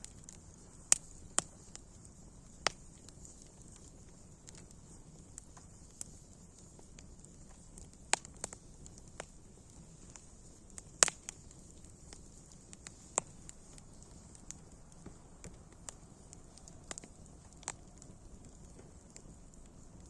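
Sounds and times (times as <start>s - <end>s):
faint steady hiss: 0.0s - 20.0s
wood fire crackling and popping: 0.0s - 20.0s.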